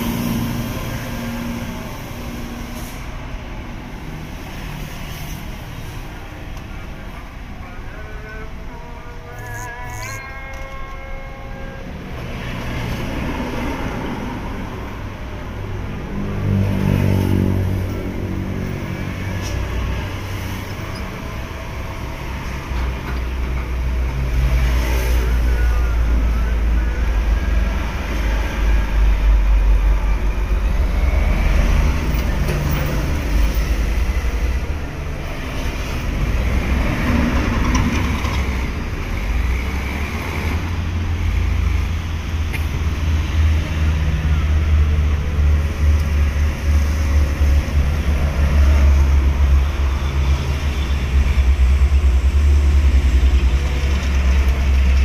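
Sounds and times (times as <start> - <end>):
forklift engine rumbling: 0.0 - 55.0.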